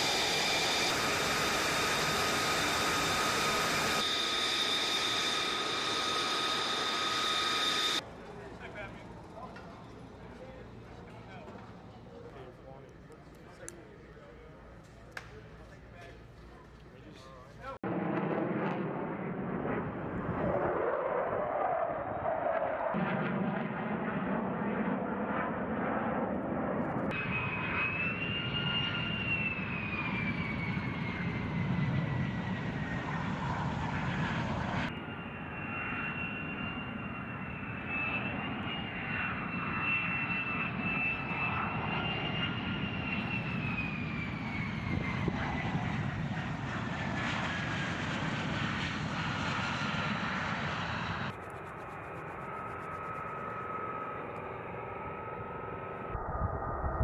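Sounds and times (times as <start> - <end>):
jet engine roar with whine: 0.0 - 14.0, 17.8 - 57.0.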